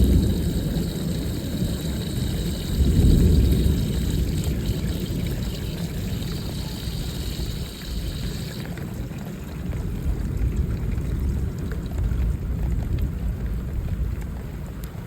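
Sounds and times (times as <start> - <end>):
running water: 0.0 - 13.1
rain: 0.0 - 15.0
wind rumbling on microphone: 0.0 - 15.0.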